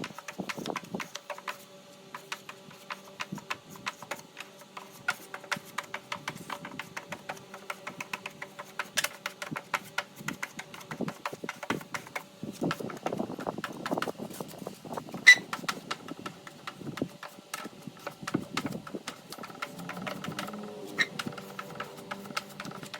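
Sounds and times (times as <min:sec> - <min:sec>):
rapid clicking and tapping: 0:00.0 - 0:22.9.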